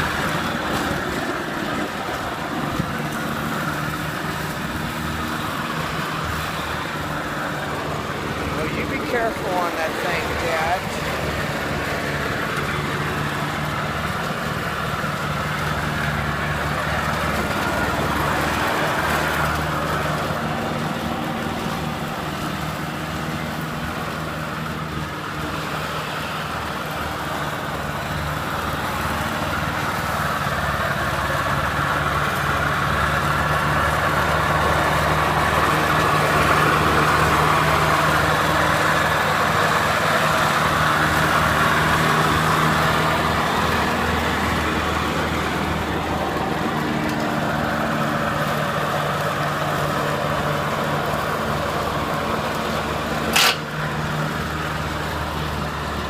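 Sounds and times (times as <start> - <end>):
riding lawnmower engine running: 0.0 - 56.0.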